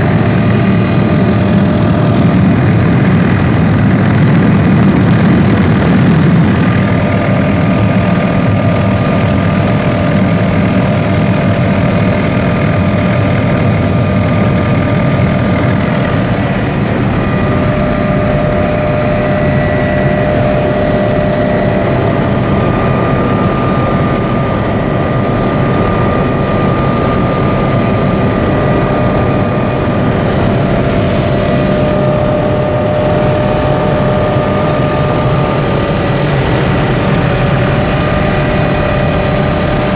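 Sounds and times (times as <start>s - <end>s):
constant whining tones: 0.0s - 39.9s
helicopter engine and rotor drone: 0.0s - 39.9s.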